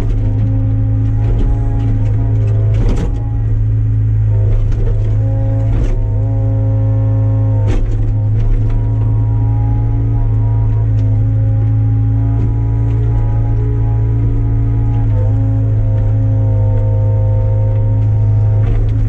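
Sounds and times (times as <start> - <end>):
excavator engine running: 0.0 - 19.0
hydraulic tones shifting pitch: 0.0 - 19.0.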